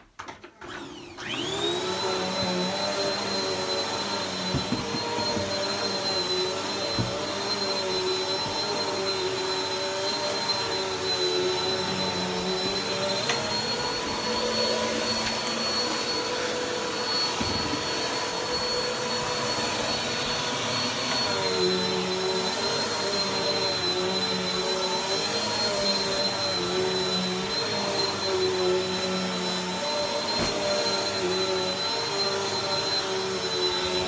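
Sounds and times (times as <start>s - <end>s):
vacuum cleaner running: 0.2s - 34.0s.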